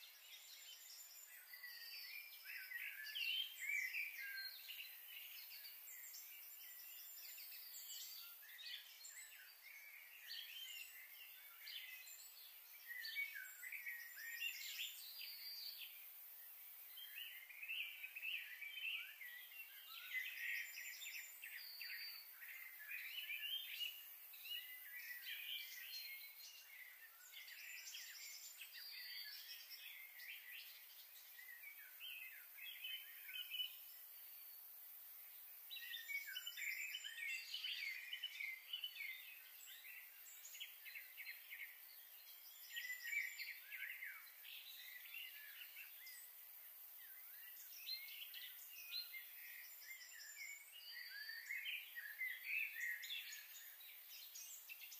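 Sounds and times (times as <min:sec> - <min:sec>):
faint steady hiss: 0:00.0 - 0:54.9
small birds chirping: 0:00.0 - 0:54.9.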